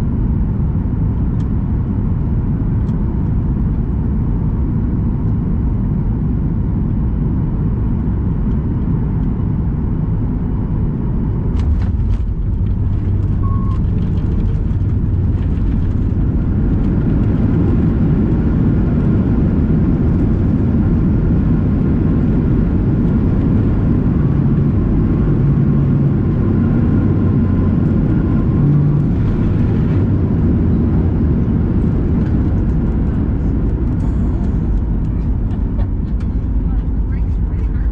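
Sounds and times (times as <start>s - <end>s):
airplane engines roaring in cabin: 0.0s - 37.9s.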